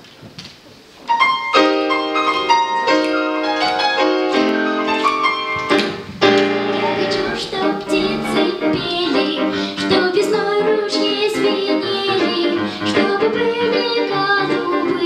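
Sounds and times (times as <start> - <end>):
faint room hiss: 0.0 - 15.0
piano melody: 1.1 - 15.0.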